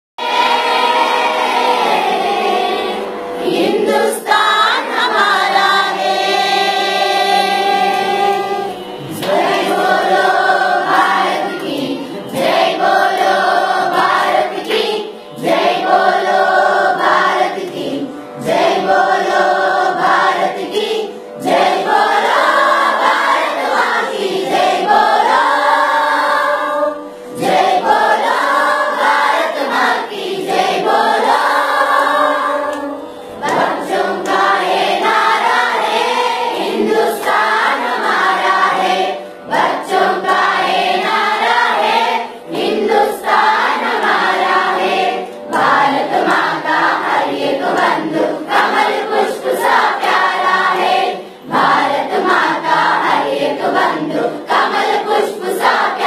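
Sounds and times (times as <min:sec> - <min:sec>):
children's chorus singing: 0:00.2 - 0:56.0.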